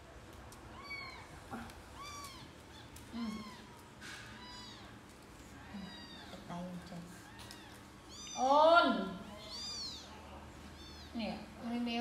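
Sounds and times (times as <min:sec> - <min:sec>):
kittens mewing: 0:00.7 - 0:11.6.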